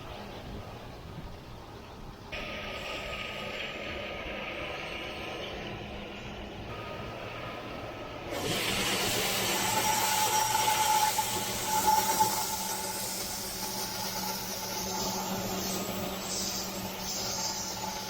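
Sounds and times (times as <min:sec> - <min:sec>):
heavy machinery humming and whining: 0:02.3 - 0:18.0
loud hiss: 0:02.3 - 0:18.0.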